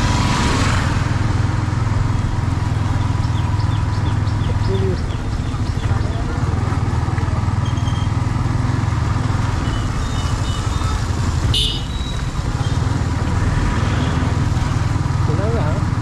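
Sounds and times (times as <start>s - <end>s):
motorcycle engine drone: 0.0s - 16.0s.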